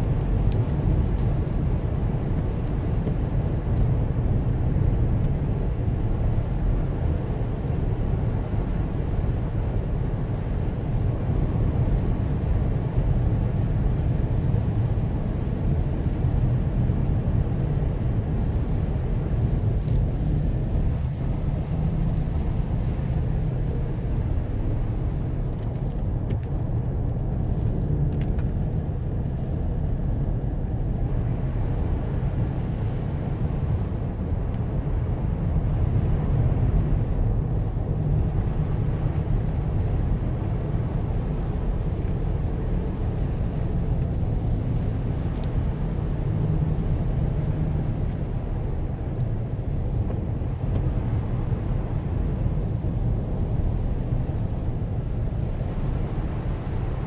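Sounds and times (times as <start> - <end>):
car engine rumble inside cabin: 0.0 - 57.0
tyre noise on snowy road: 0.0 - 57.0.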